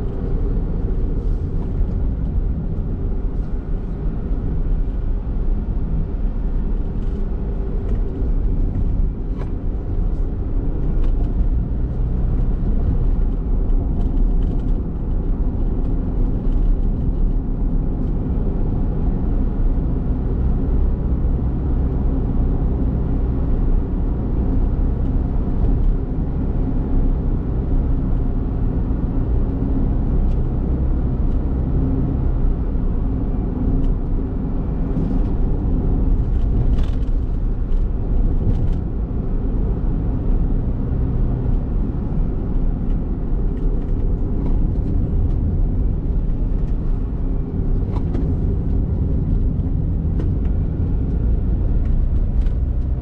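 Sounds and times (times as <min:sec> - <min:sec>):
car engine hum: 0:00.0 - 0:53.0
tyre and road noise: 0:00.0 - 0:53.0.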